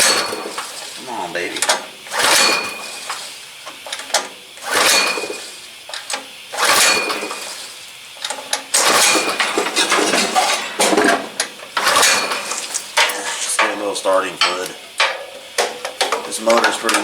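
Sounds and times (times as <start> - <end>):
engine cranked by pull-start: 0.0 - 17.0.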